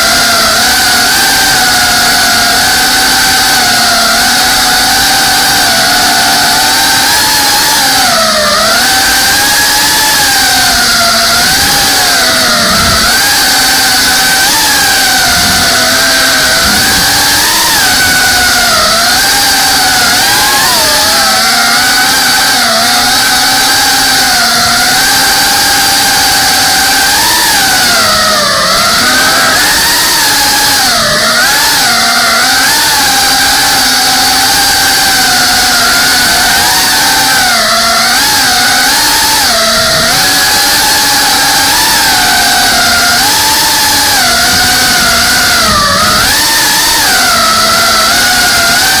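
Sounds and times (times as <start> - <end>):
drone motors whining: 0.0 - 49.0.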